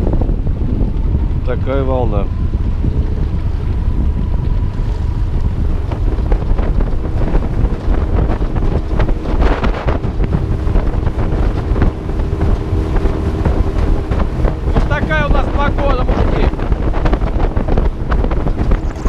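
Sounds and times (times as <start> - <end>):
waves slapping boat hull: 0.0 - 19.0
wind buffeting microphone: 0.0 - 19.0.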